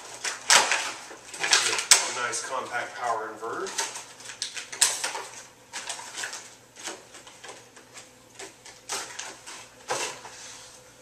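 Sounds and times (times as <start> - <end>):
cardboard and plastic packaging handled: 0.0 - 10.8.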